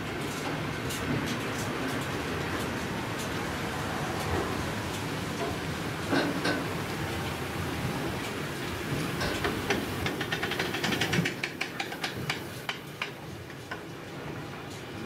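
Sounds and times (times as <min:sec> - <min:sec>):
train wheels rumbling and hissing: 0:00.0 - 0:15.0
wheels clicking on track: 0:00.0 - 0:15.0.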